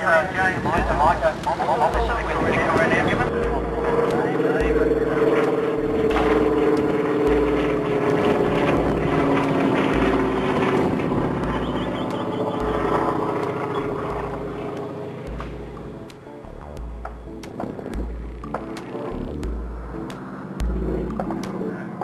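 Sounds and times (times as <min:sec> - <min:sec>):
propeller aircraft droning overhead: 0:00.0 - 0:22.0.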